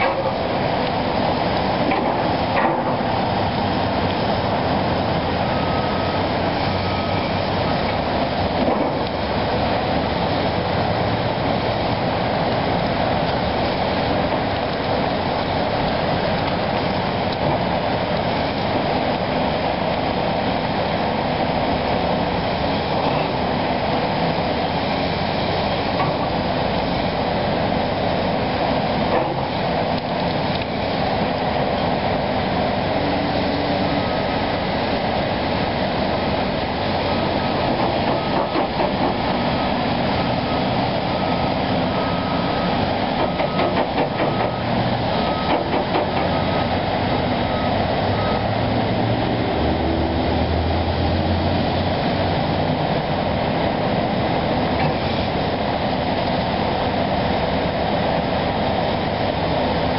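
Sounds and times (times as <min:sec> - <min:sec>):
excavator engine and hydraulics: 0:00.0 - 0:59.9.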